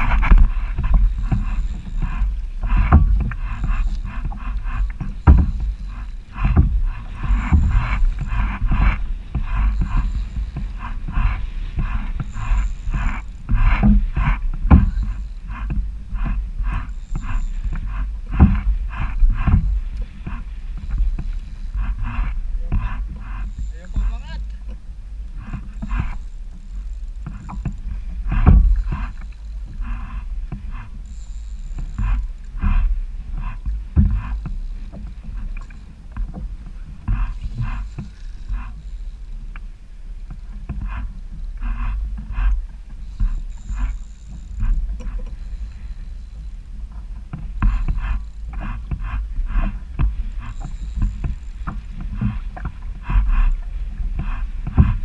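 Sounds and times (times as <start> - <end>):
water splashing against kayak: 0.0 - 55.0
wind rumble on microphone: 0.0 - 55.0.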